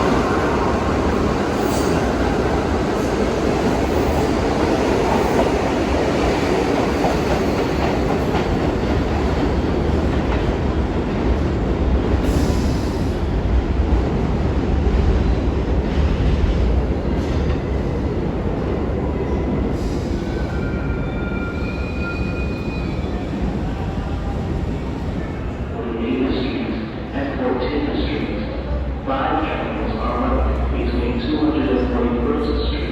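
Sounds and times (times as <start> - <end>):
subway train rumbling on rails: 0.0 - 32.9.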